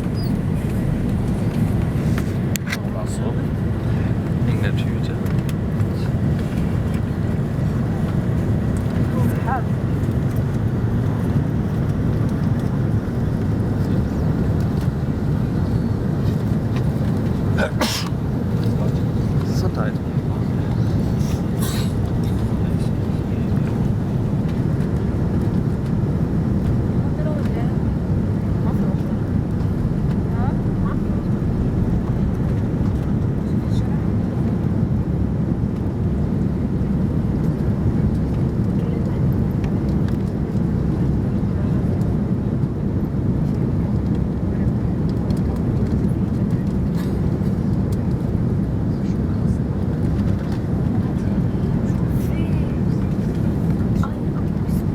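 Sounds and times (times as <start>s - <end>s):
jet engines low rumble: 0.0s - 54.9s.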